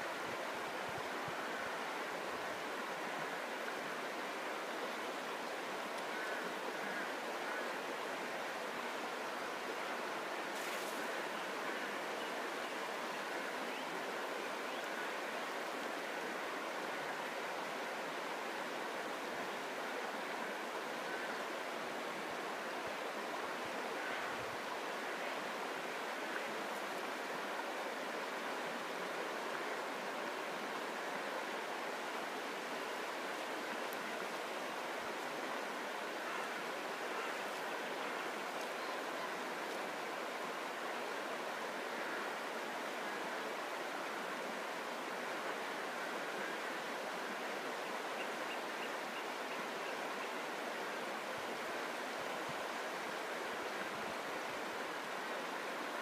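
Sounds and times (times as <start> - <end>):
river rushing over stones: 0.0 - 56.0.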